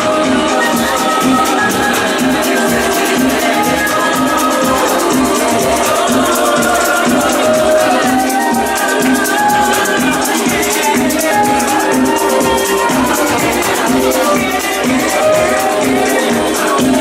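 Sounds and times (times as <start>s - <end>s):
fast shaker rhythm: 0.0s - 17.0s
house music: 0.0s - 17.0s.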